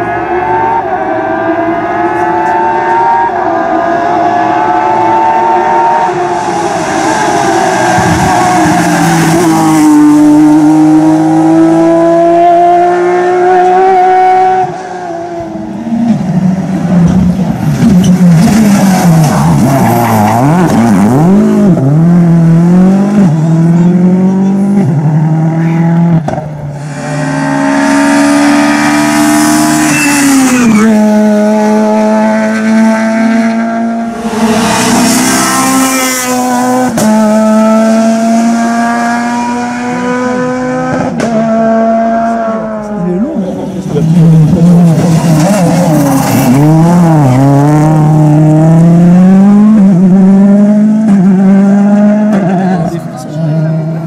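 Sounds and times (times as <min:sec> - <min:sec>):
rally car engines accelerating: 0:00.0 - 0:54.0.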